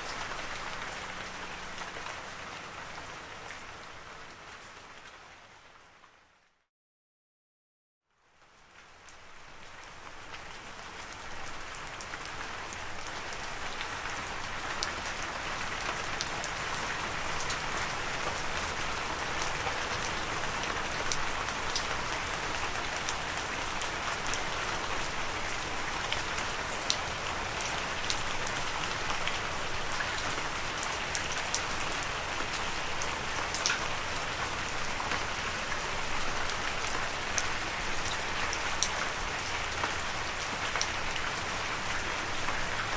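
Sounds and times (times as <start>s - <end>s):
rain falling: 0.0s - 6.2s, 8.3s - 42.9s.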